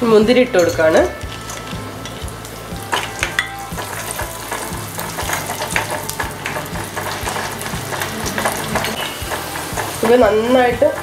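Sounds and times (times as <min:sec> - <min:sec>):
nuts sizzling in hot fat: 0:00.0 - 0:11.0
spatula scraping a pan: 0:00.6 - 0:11.0.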